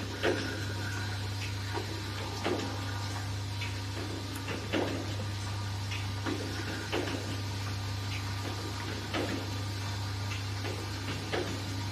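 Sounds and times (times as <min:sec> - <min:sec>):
low machine hum: 0:00.0 - 0:11.9.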